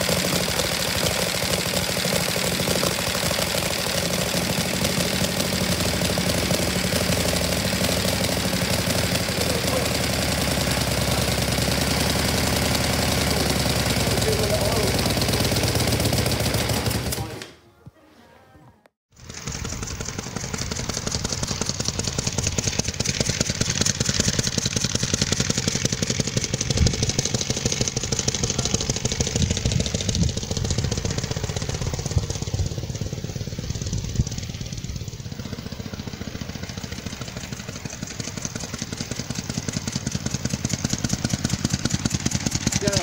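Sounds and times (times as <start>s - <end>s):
motorcycle engine firing beat: 0.0s - 17.4s, 19.2s - 43.0s.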